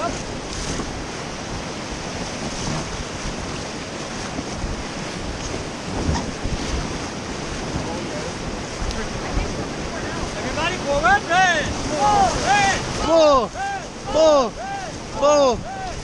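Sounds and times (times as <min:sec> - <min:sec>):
rushing river water: 0:00.0 - 0:16.0
wind buffeting microphone: 0:00.0 - 0:16.0.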